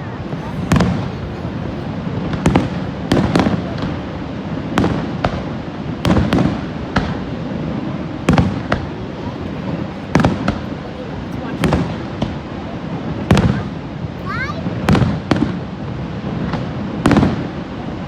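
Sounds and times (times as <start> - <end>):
fireworks bangs: 0.0 - 18.0
steady rushing noise: 0.0 - 18.0.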